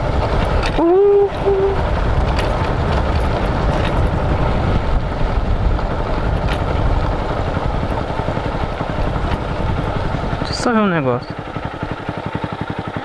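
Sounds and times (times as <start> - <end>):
wind rumble on microphone: 0.0 - 12.7
motorcycle engine running: 0.0 - 13.0.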